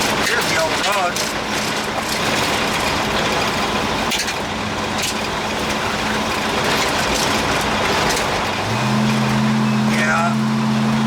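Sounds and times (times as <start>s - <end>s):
car engine and gravel road noise: 0.0s - 11.0s.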